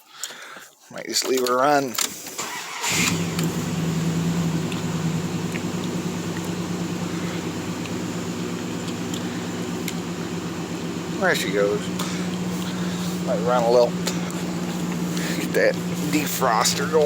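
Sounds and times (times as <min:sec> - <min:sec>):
truck engine starting and idling: 0:02.0 - 0:17.0.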